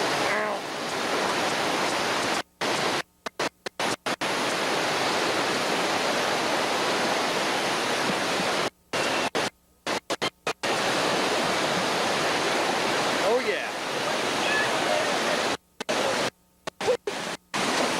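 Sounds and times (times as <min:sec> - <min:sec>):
whitewater rapids roaring: 0:00.0 - 0:03.0, 0:03.8 - 0:09.3, 0:10.6 - 0:17.9.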